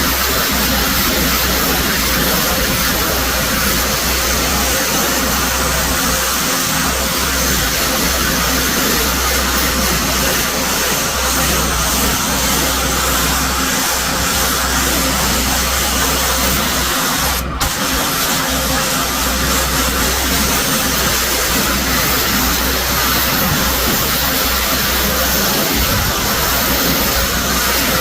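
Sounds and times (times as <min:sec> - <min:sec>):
pressure washer running: 0:00.0 - 0:28.0.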